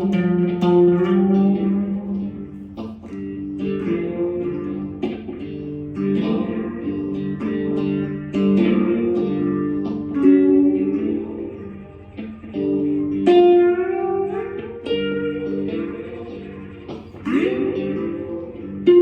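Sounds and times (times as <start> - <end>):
guitar plucked notes and chords: 0.0 - 19.0.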